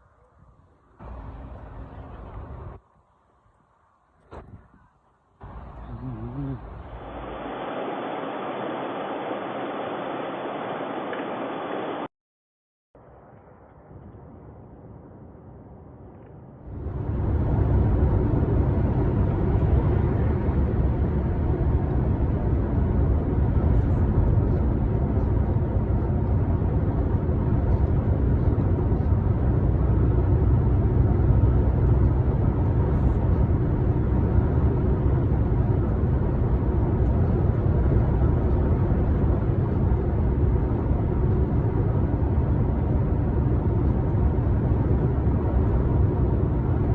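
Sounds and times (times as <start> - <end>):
truck engine and road rumble: 0.0 - 9.4, 13.0 - 46.9.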